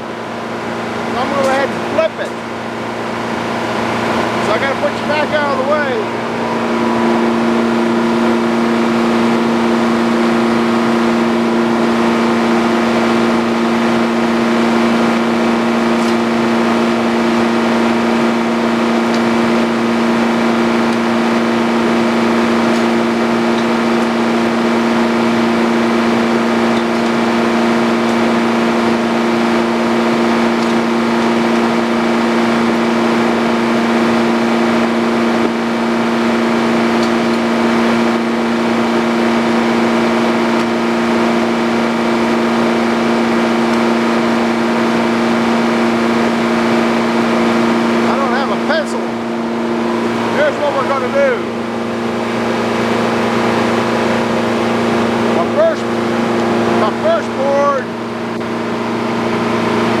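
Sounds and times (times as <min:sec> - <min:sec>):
circular sawmill droning: 0:00.0 - 1:00.0
steady humming tones: 0:00.0 - 1:00.0.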